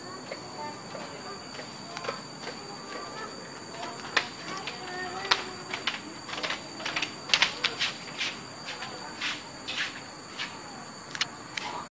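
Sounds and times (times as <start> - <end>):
insects buzzing: 0.0 - 11.9.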